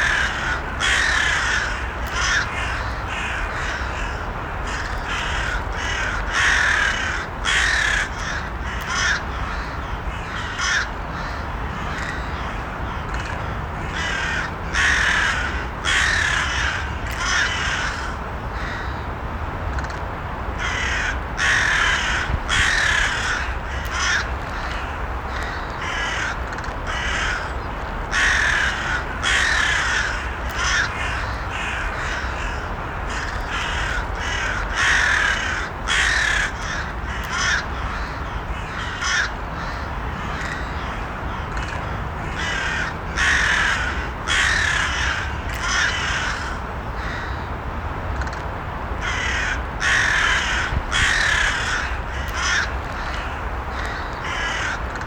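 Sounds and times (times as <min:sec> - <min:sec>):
crows cawing: 0:00.0 - 0:19.0, 0:20.6 - 0:47.5, 0:49.0 - 0:55.0.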